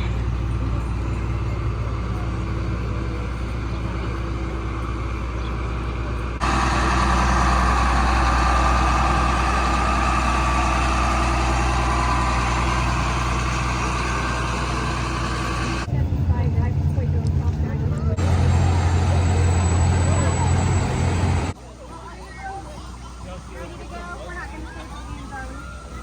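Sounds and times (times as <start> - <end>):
road noise: 0.0 - 26.0
vehicle engine rumble: 0.0 - 26.0.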